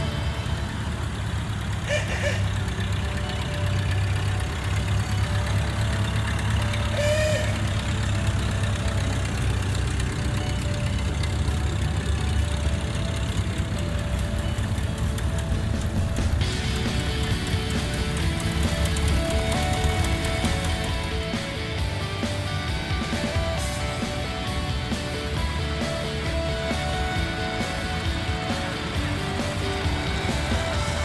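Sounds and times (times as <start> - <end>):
tractor engines rumbling past: 0.0 - 31.0.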